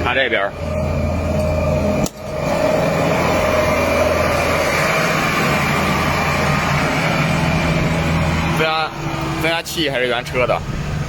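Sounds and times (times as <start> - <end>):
heavy diesel engine humming: 0.0 - 11.0.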